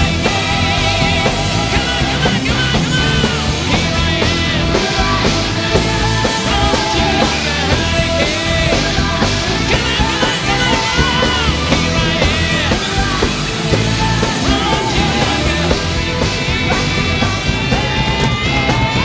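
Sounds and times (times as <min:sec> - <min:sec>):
hard rock band playing: 0:00.0 - 0:19.0
man singing lead vocals: 0:00.0 - 0:19.0.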